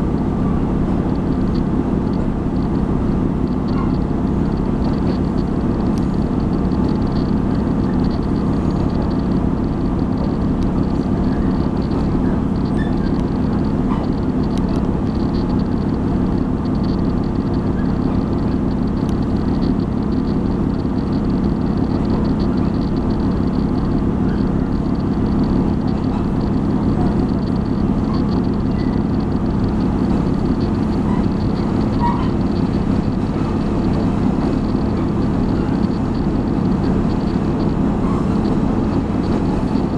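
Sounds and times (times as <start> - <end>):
train rumbling from inside carriage: 0.0 - 39.9.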